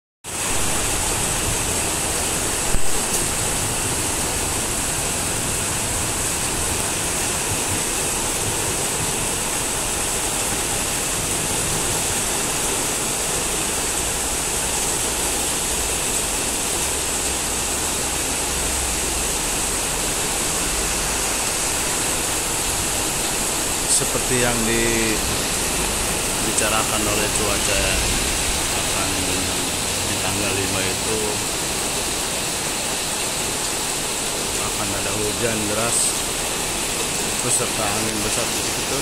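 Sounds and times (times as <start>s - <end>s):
heavy rain pouring: 0.2s - 39.0s.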